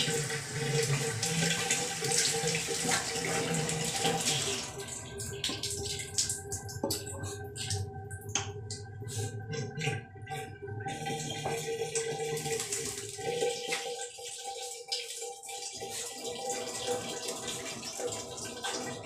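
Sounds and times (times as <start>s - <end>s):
shower water splashing: 0.0s - 19.0s.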